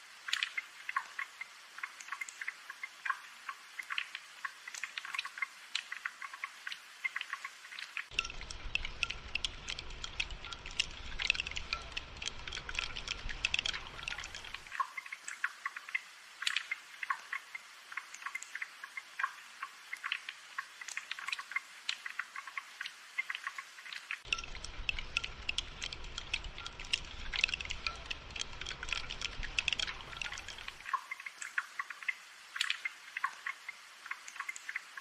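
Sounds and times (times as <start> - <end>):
rain drops tapping and dripping: 0.0 - 35.0.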